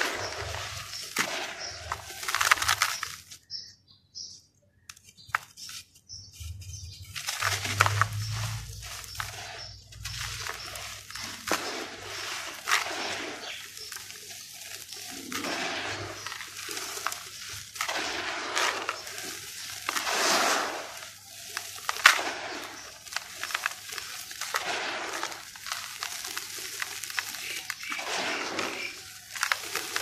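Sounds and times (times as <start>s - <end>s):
dry dirt pouring into plastic basin: 0.0s - 3.3s, 7.1s - 30.0s
dirt lumps crunching: 0.0s - 3.7s, 4.8s - 30.0s.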